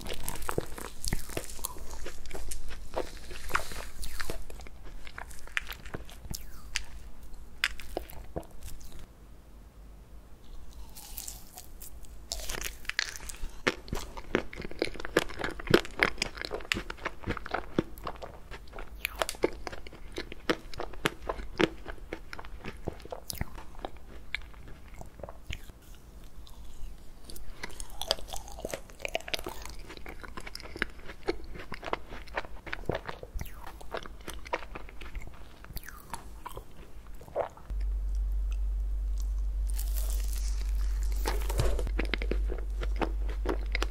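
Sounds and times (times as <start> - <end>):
chewing crunchy food: 0.0 - 9.1, 10.5 - 38.6, 39.2 - 43.9.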